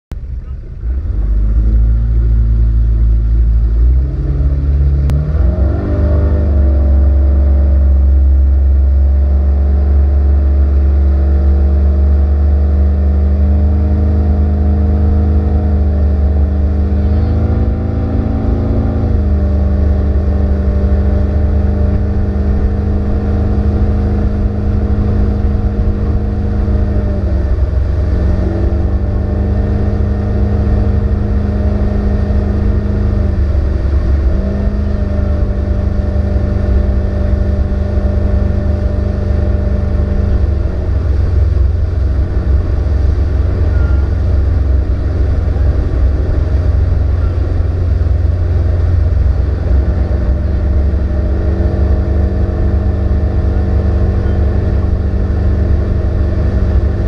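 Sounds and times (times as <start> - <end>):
outboard motor running: 0.2 - 57.0.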